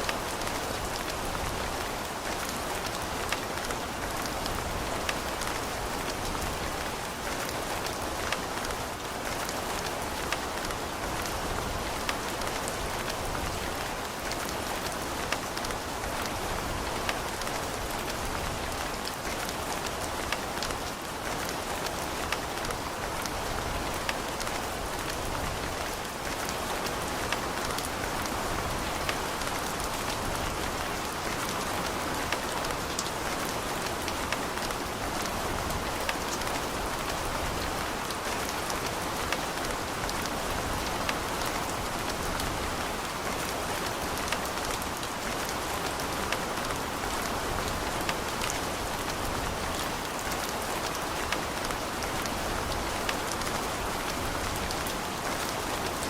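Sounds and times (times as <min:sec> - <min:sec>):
raindrops ticking on a surface: 0:00.0 - 0:56.0
steady rain hiss: 0:00.0 - 0:56.0.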